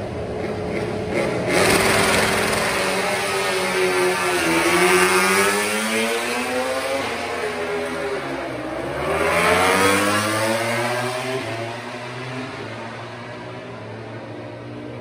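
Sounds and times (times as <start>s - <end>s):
racing motorcycle engine revving: 0.0s - 14.6s.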